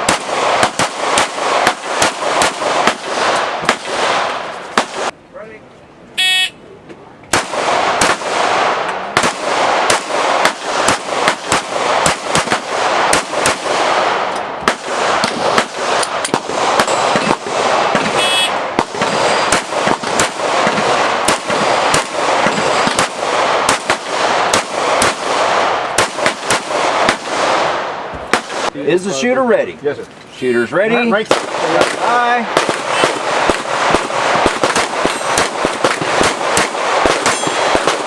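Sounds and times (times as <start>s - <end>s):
pistol shots: 0.0s - 5.2s, 7.3s - 28.8s, 31.2s - 38.0s.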